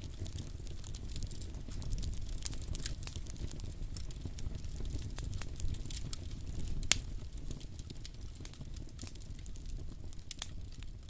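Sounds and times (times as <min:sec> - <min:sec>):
campfire flames rumbling: 0:00.0 - 0:11.0
fire crackling: 0:00.0 - 0:11.0.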